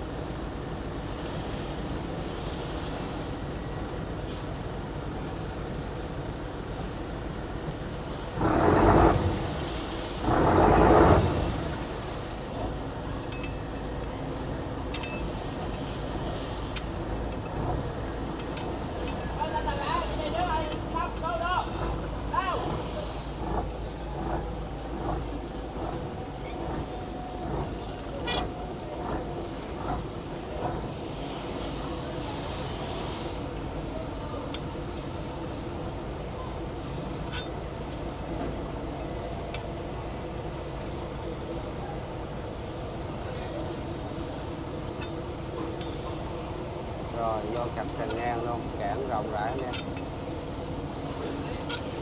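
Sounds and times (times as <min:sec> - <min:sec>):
boat engine drone: 0:00.0 - 0:52.0.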